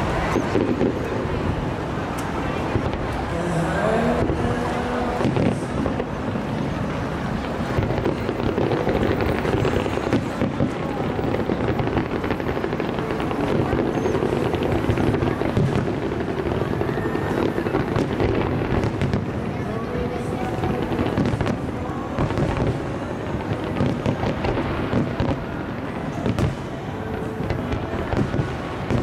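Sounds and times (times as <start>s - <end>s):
fireworks popping and banging: 0.0s - 29.0s.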